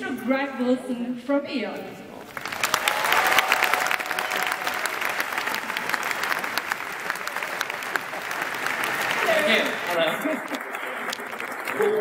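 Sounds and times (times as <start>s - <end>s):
audience applauding: 2.3s - 12.0s.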